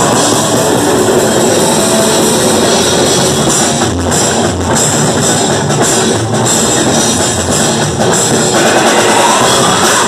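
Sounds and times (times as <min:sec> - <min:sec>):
distorted electric guitars: 0:00.0 - 0:10.0
pounding drum kit: 0:00.0 - 0:10.0.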